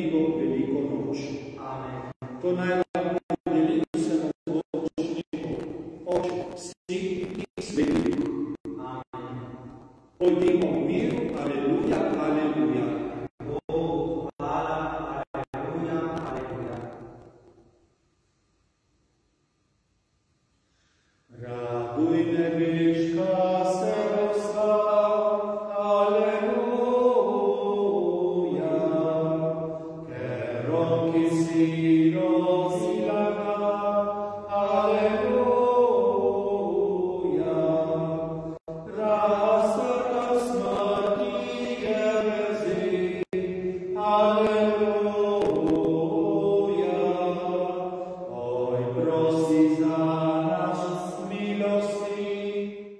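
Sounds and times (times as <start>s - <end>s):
slow hymn singing: 0.0s - 17.0s, 20.8s - 52.9s.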